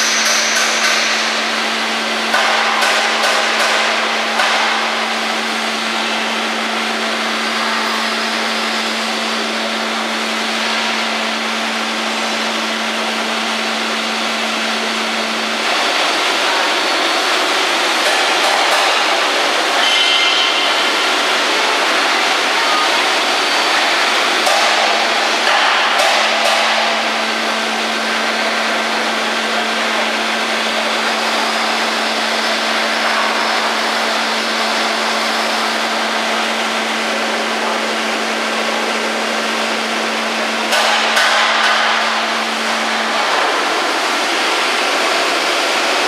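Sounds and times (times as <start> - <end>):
steady machinery noise: 0.0 - 46.0.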